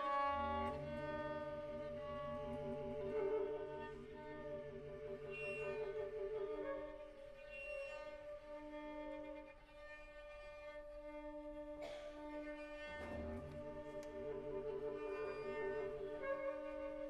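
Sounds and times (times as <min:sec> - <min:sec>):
bowed strings sustained notes: 0:00.0 - 0:09.6, 0:10.9 - 0:17.0.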